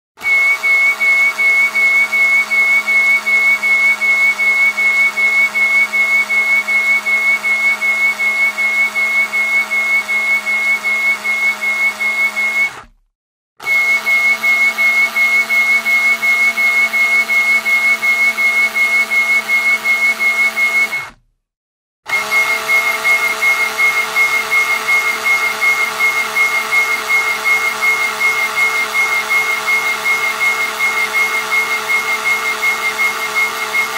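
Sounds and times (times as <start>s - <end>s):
screw whistling with fast pulsing: 0.2s - 13.0s, 13.6s - 21.2s, 22.1s - 33.9s.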